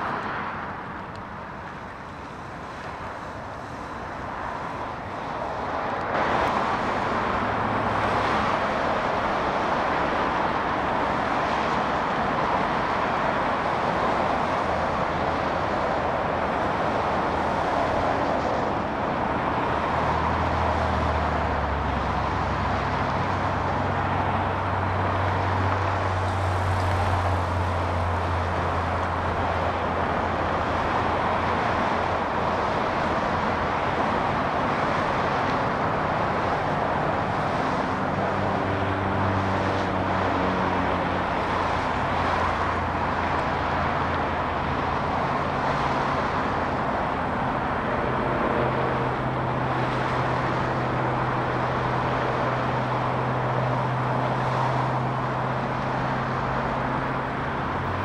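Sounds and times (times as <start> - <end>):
road traffic noise: 0.0 - 58.0.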